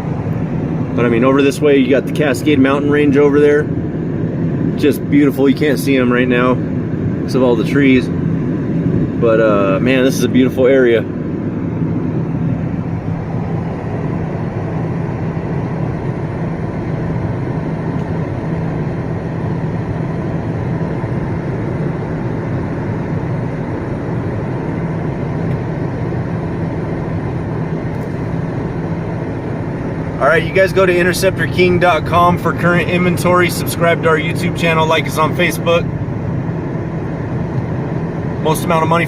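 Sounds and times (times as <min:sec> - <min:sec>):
car engine and road noise in cabin: 0:00.0 - 0:39.0.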